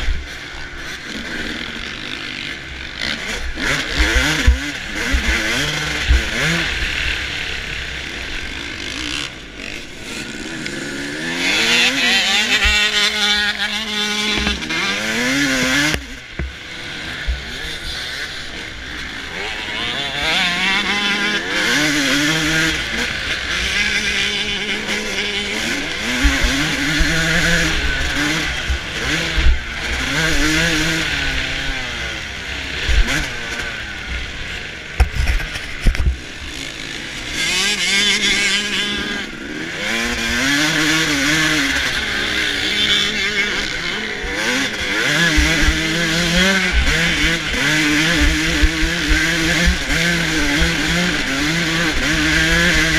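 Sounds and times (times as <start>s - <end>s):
motocross engine revving: 0.0s - 52.9s.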